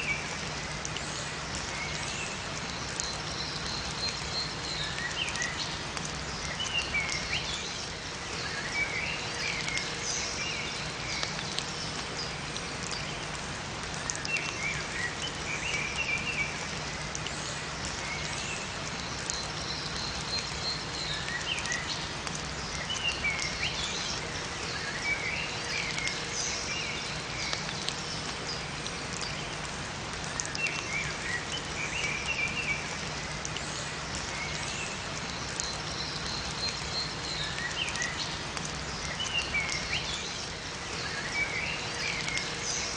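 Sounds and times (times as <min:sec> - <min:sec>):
rain falling in forest: 0:00.0 - 0:42.9
songbirds chirping: 0:00.0 - 0:42.9.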